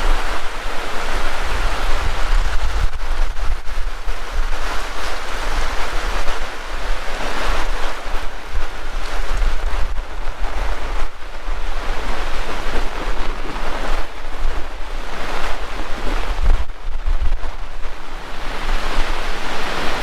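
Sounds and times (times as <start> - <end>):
heavy rain pouring: 0.0 - 20.0
wind buffeting microphone: 0.0 - 20.0.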